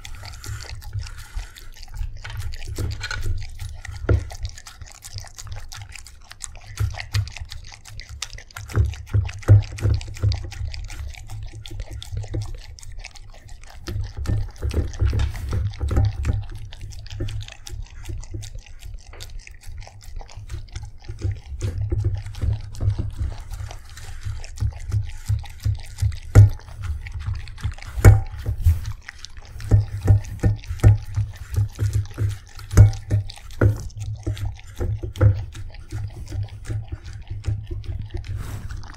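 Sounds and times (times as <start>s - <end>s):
dog lapping wet food: 0.0s - 38.9s.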